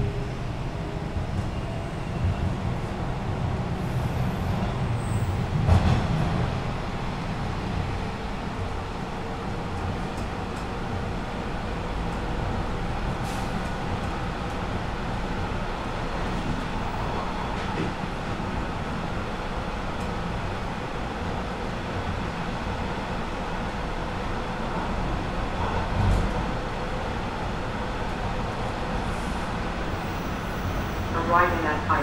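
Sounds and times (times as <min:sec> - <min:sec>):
subway car wheels rumbling: 0:00.0 - 0:32.0.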